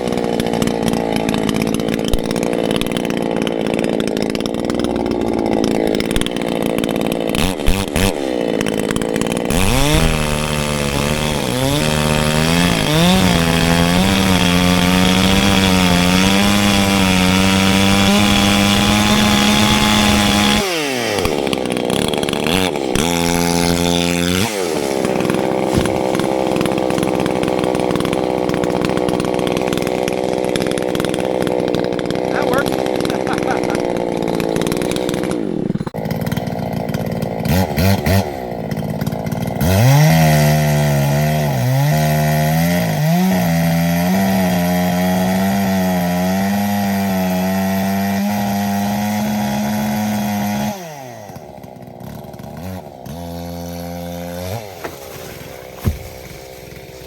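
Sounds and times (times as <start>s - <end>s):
battery chainsaw cutting wood: 0.0s - 57.0s.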